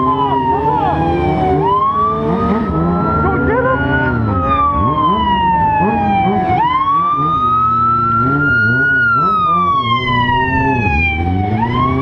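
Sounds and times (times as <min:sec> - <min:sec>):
emergency vehicle siren wailing: 0:00.0 - 0:12.0.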